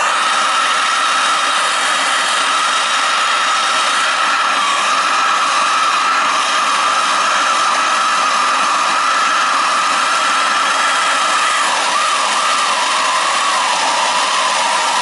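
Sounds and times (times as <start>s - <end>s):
heat gun blowing: 0.0s - 15.0s.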